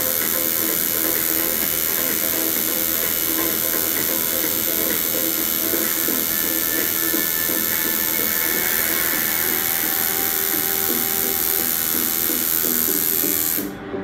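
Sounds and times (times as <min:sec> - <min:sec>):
tattoo machine running: 0:00.0 - 0:14.0.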